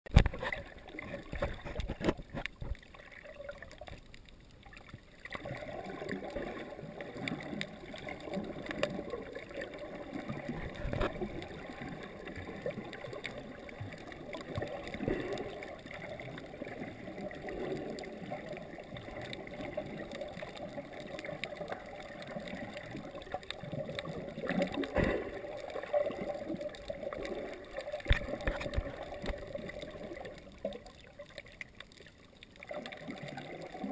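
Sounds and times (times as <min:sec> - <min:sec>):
muffled underwater sloshing: 0:00.1 - 0:33.9.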